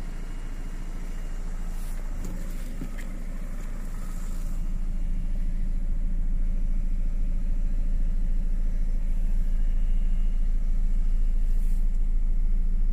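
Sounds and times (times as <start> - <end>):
van engine running: 0.0 - 12.9.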